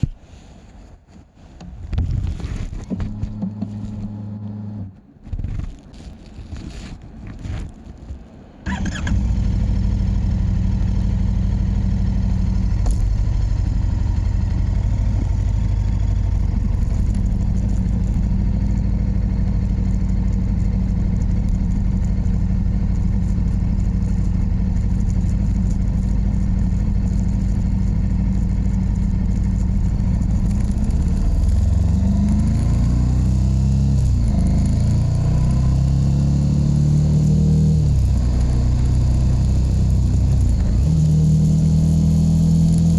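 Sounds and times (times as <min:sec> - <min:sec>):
motorcycle engine idling and revving: 0:02.0 - 0:42.9.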